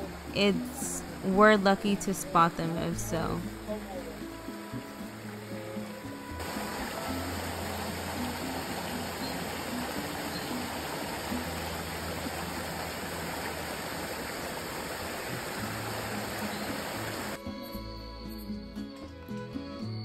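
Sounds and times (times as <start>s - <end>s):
soft background music: 0.0s - 14.0s, 15.1s - 20.0s
water rushing: 0.0s - 17.4s.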